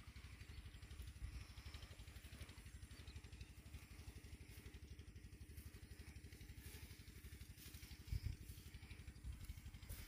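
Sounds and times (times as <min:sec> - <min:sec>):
faint engine idling: 0:00.0 - 0:10.0.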